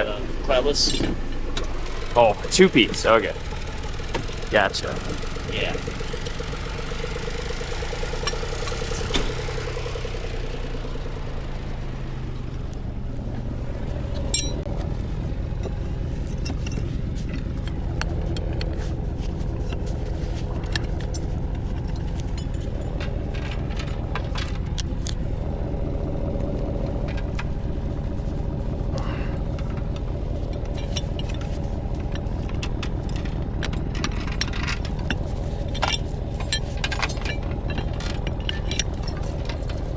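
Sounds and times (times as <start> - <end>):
light rattling and clinking: 0.0 - 11.0, 14.1 - 25.6, 29.5 - 39.9
truck engine rumbling: 0.0 - 39.9.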